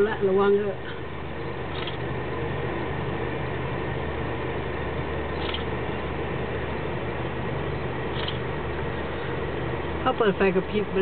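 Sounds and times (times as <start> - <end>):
car idling hum: 0.0 - 11.0.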